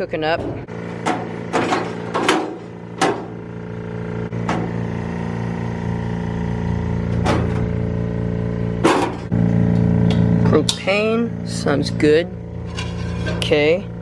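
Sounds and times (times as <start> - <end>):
steady engine-like hum: 0.0 - 14.0.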